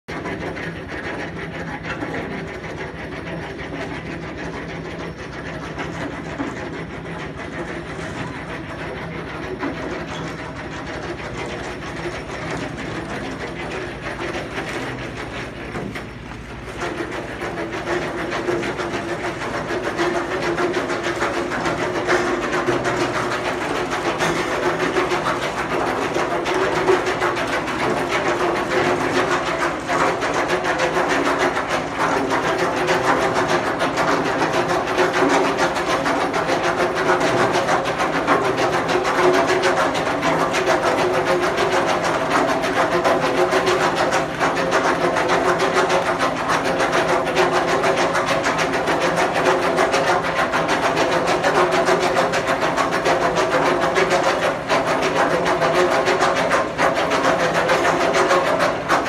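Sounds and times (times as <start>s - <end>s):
machinery clattering: 0.1s - 59.0s.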